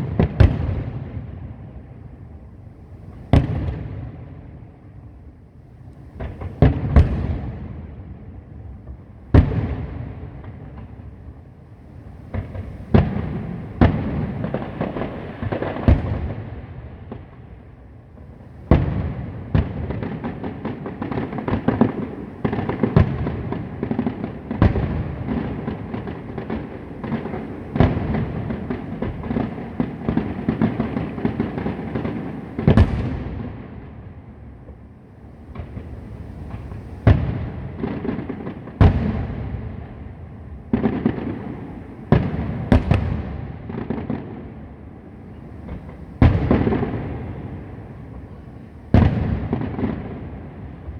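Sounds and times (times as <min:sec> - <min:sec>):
firework bangs with echo: 0:00.0 - 0:01.5, 0:03.2 - 0:04.3, 0:06.2 - 0:08.2, 0:09.3 - 0:11.2, 0:12.2 - 0:17.7, 0:18.6 - 0:34.2, 0:35.4 - 0:44.8, 0:45.6 - 0:50.9
firework crackle: 0:08.9 - 0:50.9.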